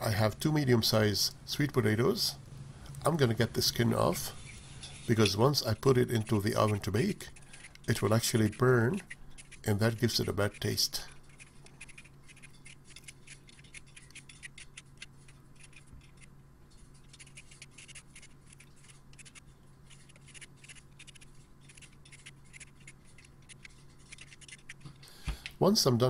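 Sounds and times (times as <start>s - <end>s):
steady low hum: 0.0s - 26.0s
vegetable peeler scraping: 4.0s - 24.9s.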